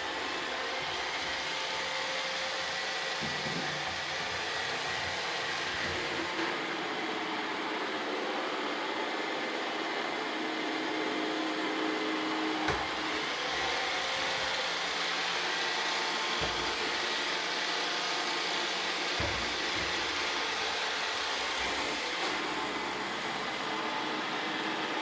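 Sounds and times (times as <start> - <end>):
robot vacuum whirring: 0.0 - 9.8, 10.4 - 25.0.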